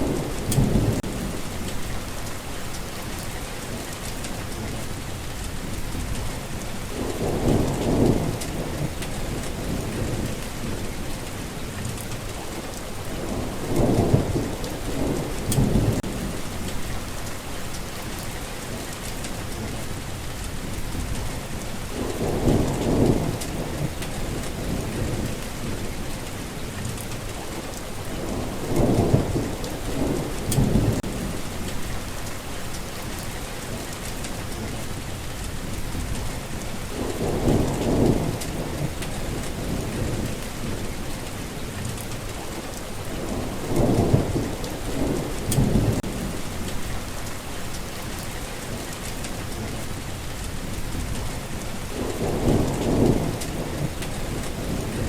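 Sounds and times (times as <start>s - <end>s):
steady rain falling: 0.0s - 55.0s
thunder rumbling: 0.0s - 55.0s.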